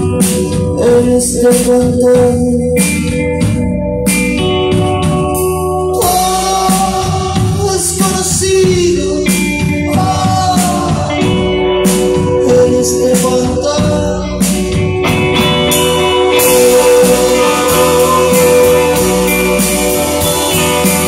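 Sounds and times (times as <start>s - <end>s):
person singing: 0.0s - 3.4s, 5.9s - 21.0s
guitars: 0.0s - 21.0s.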